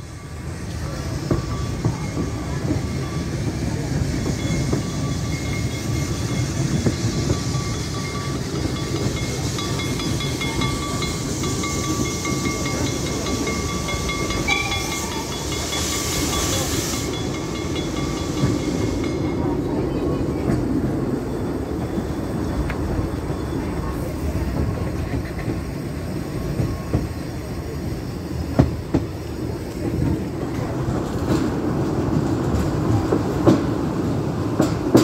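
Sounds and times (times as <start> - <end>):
steam hiss: 0.0 - 35.0
train carriages rumbling on track: 0.0 - 35.0.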